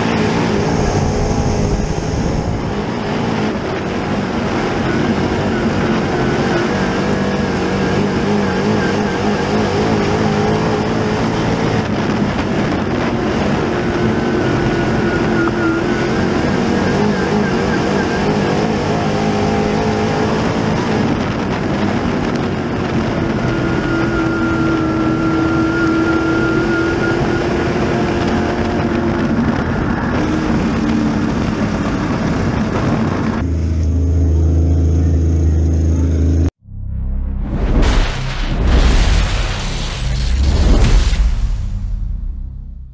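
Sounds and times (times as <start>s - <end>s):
race car engine at speed: 0.0s - 36.6s.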